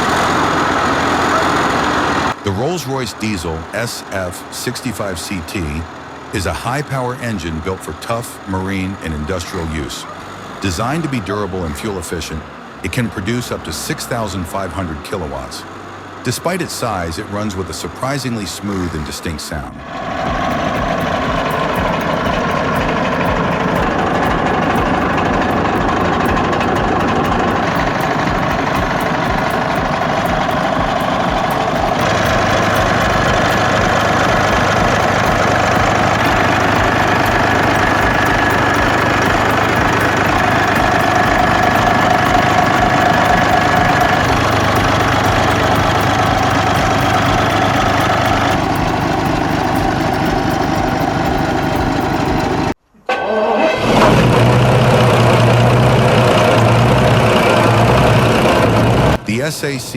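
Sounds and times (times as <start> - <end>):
large diesel engine running: 0.0 - 52.8, 53.6 - 59.4.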